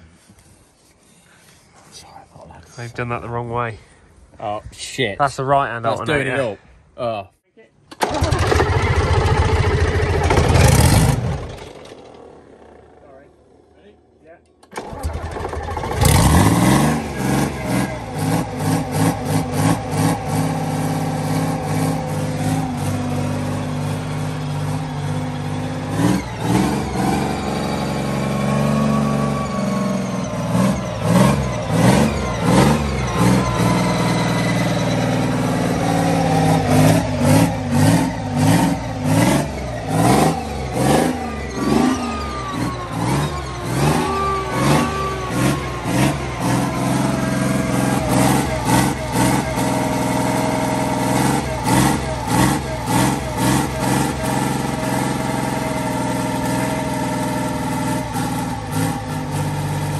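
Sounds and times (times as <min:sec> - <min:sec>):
engine revving: 0:08.0 - 0:13.9, 0:14.6 - 0:59.9.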